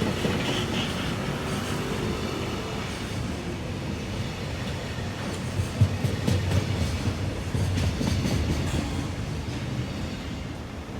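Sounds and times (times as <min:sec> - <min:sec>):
freight train rumbling past: 0:00.0 - 0:10.9.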